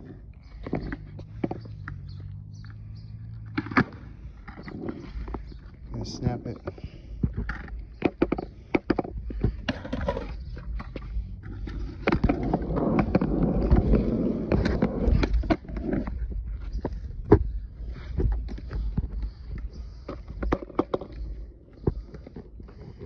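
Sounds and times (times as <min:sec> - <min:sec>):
skateboard clacking on concrete: 0:00.0 - 0:02.0, 0:02.6 - 0:23.0
skateboard wheels rumbling: 0:00.0 - 0:23.0.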